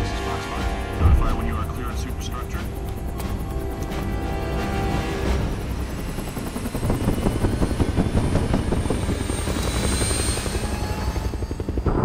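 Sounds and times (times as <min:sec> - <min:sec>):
helicopter rotor blades beating: 0:00.0 - 0:12.0.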